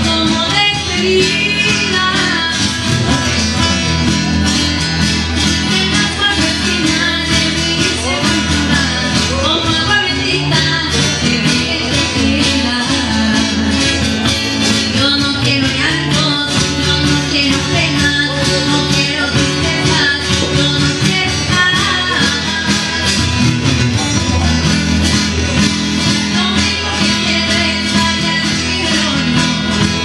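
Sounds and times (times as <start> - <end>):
person singing: 0.0 - 30.0
strummed acoustic guitars: 0.0 - 30.0.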